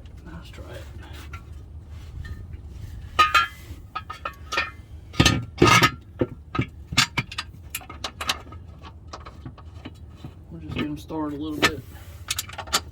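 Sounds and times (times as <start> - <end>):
steel parts and tools clanking: 2.2 - 12.9.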